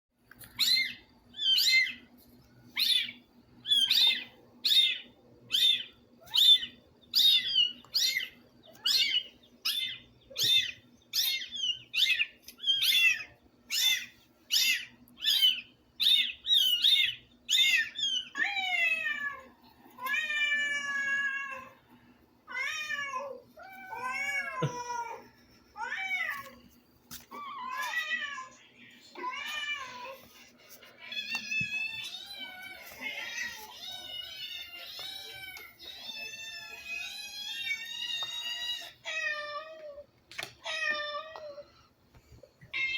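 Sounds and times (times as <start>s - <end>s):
faint steady hum: 0.2s - 42.9s.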